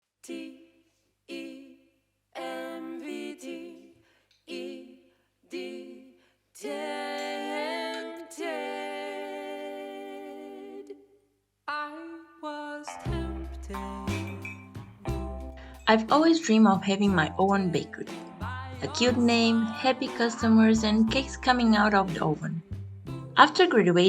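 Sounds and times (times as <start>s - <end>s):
wordless vocal melody: 0.2s - 11.1s, 11.7s - 23.5s.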